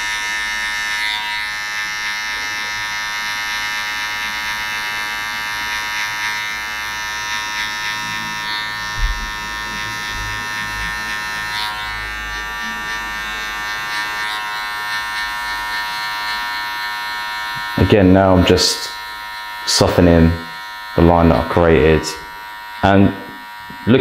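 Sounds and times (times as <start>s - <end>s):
electric hair clipper buzzing: 0.0s - 24.0s.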